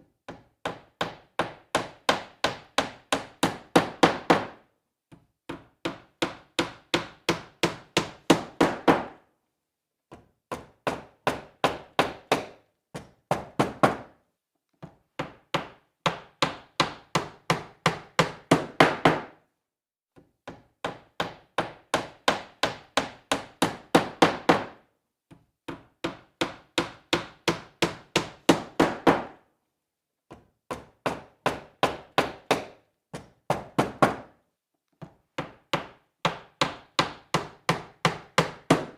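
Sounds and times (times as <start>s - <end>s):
hammer driving nail into wood: 0.2s - 9.2s, 10.1s - 14.2s, 14.8s - 19.4s, 20.4s - 24.8s, 25.7s - 29.4s, 30.3s - 34.4s, 35.0s - 38.9s.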